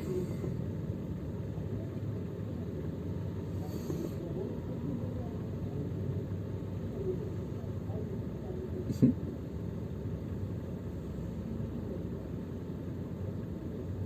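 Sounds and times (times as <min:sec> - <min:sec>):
car engine rumble from inside: 0:00.0 - 0:14.0.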